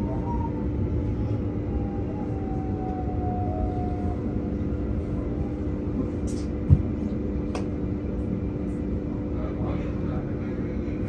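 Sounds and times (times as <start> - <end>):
electrical hum: 0.0 - 11.0
train cabin rumble: 0.0 - 11.0.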